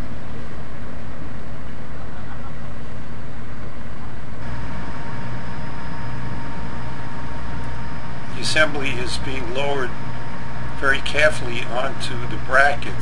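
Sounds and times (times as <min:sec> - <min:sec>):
crane diesel engine running: 0:00.0 - 0:13.0
thin steady whine: 0:00.0 - 0:13.0.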